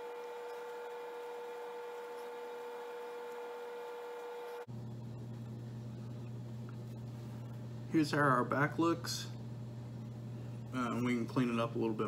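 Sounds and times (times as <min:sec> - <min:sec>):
electrical hum with high whine: 0:00.0 - 0:12.0
lower steady hum: 0:00.0 - 0:12.0.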